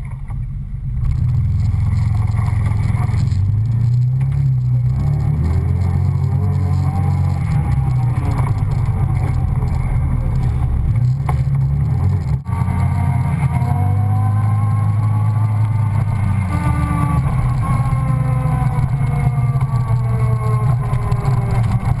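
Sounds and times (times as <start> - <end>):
engine whine: 0.0 - 22.0
vehicle engine droning: 0.0 - 22.0.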